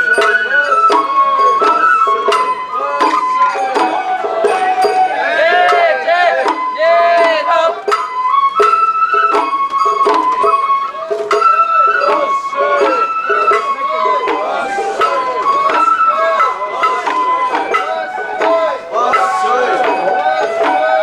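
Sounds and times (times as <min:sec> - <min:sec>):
bamboo flute melody: 0:00.0 - 0:21.0
people's voices: 0:00.0 - 0:21.0.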